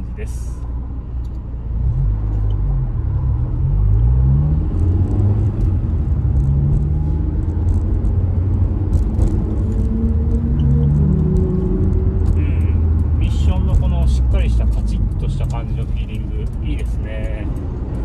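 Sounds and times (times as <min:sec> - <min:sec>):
low road rumble: 0:00.0 - 0:18.0
car engine accelerating: 0:01.3 - 0:18.0.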